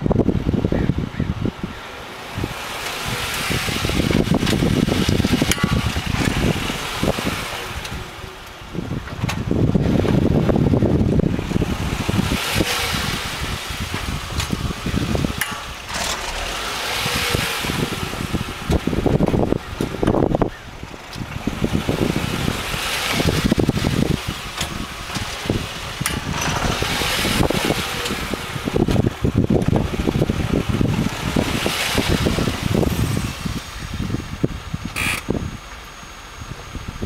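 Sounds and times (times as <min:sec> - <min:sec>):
car engine driving: 0:00.0 - 0:37.0
road noise: 0:00.0 - 0:37.0.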